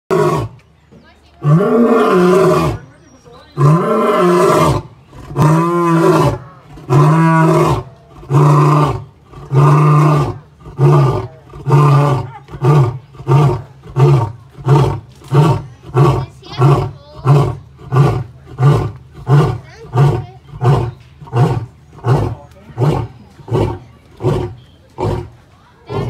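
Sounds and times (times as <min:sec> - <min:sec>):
lion roaring: 0:01.4 - 0:02.8, 0:03.6 - 0:26.0
lion grunting: 0:03.6 - 0:26.0.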